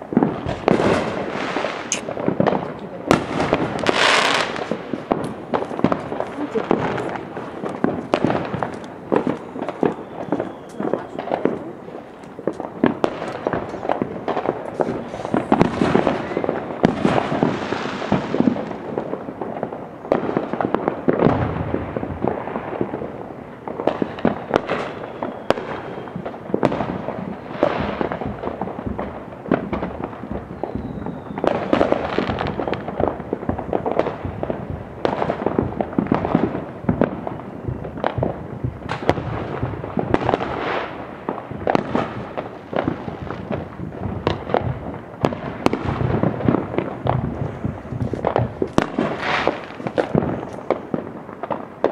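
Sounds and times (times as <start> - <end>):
fireworks crackling: 0.0 - 51.9
fireworks popping and banging: 0.0 - 51.9.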